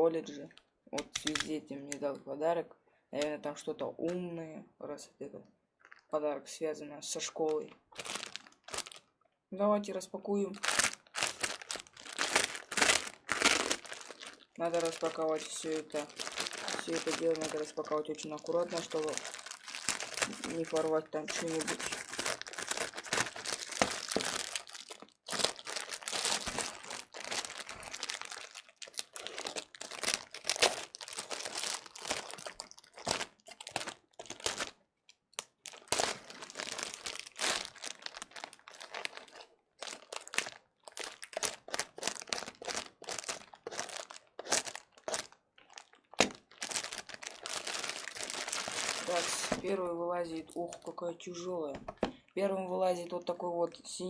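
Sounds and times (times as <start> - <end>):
packaging crinkling and tearing: 0.5 - 1.5, 5.8 - 6.1, 7.4 - 9.1, 10.4 - 50.9.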